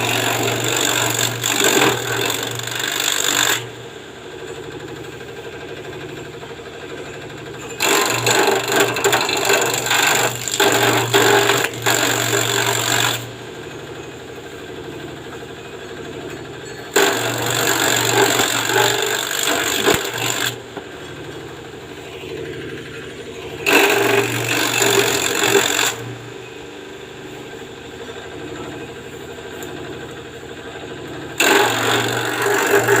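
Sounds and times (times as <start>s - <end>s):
grass chopper motor running: 0.0s - 33.0s.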